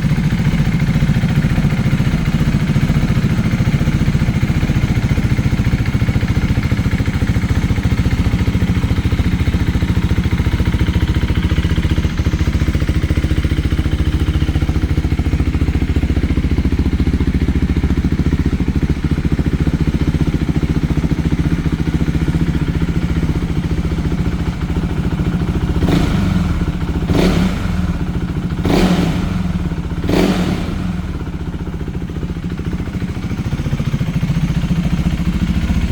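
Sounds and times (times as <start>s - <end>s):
motorcycle engine idling: 0.0s - 35.9s.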